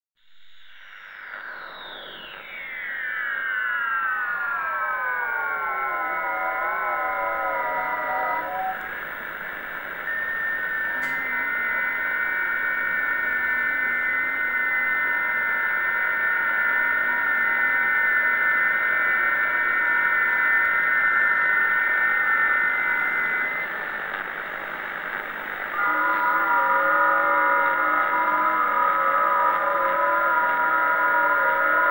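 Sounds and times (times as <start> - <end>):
wavering low radio tone: 0.2 - 31.9
radio static hiss: 0.4 - 31.9
steady high radio tones: 0.4 - 31.9
wavering multi-tone radio warble: 0.5 - 31.9.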